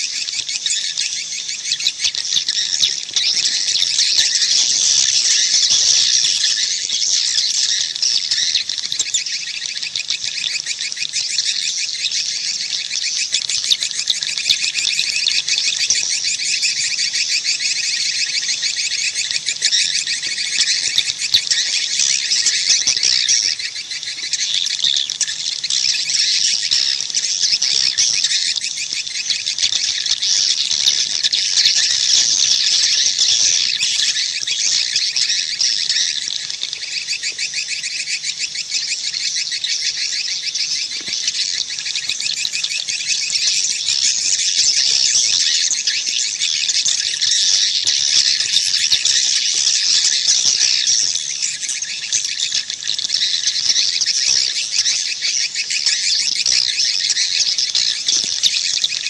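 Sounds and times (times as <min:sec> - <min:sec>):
swiftlets twittering: 0:00.0 - 0:59.0.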